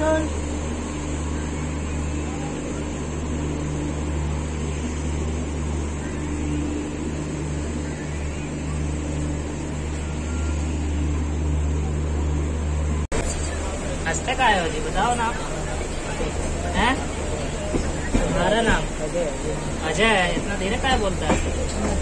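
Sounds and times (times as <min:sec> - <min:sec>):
train coach hum and rumble: 0:00.0 - 0:22.0.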